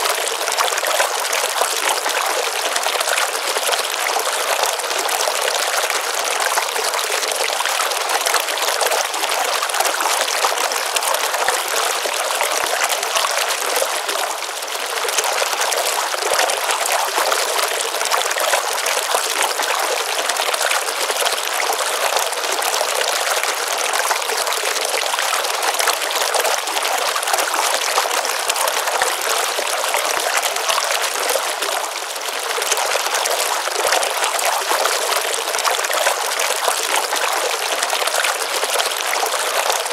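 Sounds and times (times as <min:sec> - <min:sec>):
stream water running and splashing: 0:00.0 - 0:39.9.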